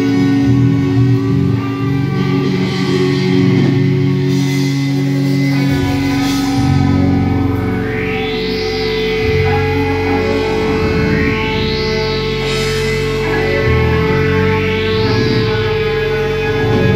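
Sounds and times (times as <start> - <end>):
cymbal washes: 0.0 - 16.9
electric guitar drones: 0.0 - 16.9
sound sweeping up in pitch: 0.0 - 16.9.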